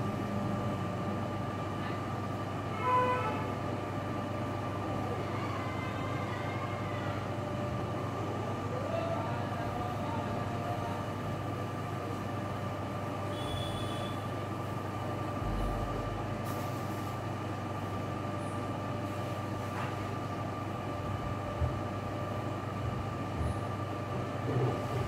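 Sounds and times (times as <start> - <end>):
mechanical hum with whining tone: 0.0 - 25.0.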